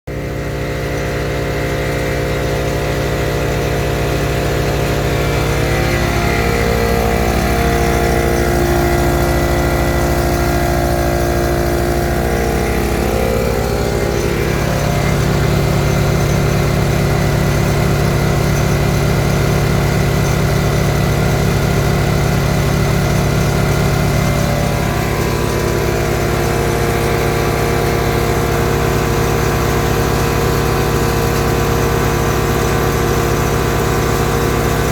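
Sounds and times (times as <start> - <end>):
generator engine running: 0.0 - 34.9
air compressor running: 0.1 - 34.9.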